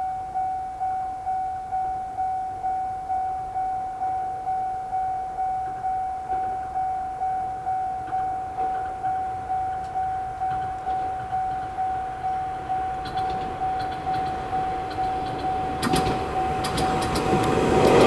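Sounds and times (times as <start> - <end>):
level-crossing warning bell dinging: 0.0 - 18.0.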